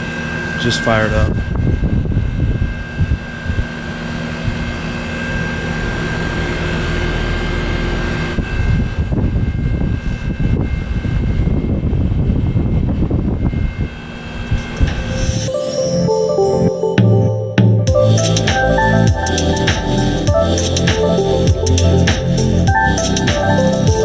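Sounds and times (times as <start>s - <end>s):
fan drone: 0.0s - 15.5s, 17.9s - 24.0s
outdoor unit whine: 0.0s - 15.5s, 17.9s - 24.0s.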